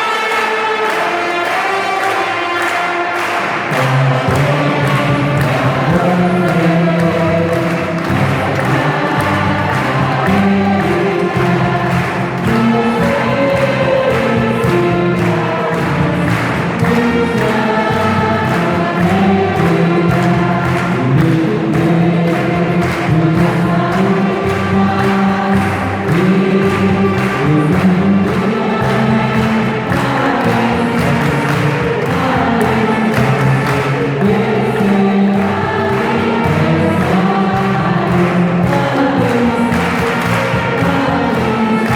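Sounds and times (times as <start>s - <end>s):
group singing with instruments: 0.0s - 41.9s.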